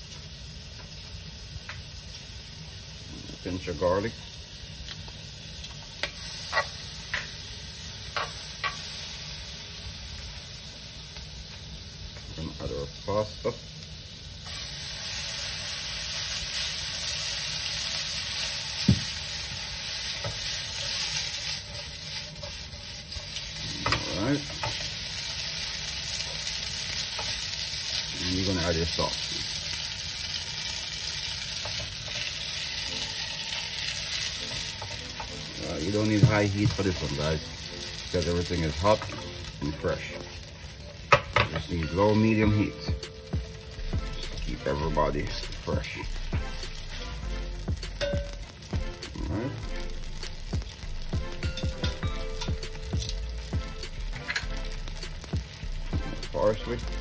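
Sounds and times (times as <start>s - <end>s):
butter and garlic sizzling in pan: 0.0s - 57.0s.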